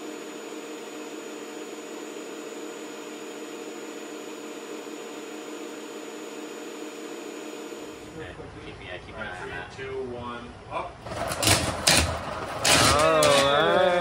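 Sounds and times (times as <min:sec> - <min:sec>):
mechanical hum with whine: 0:00.0 - 0:14.0.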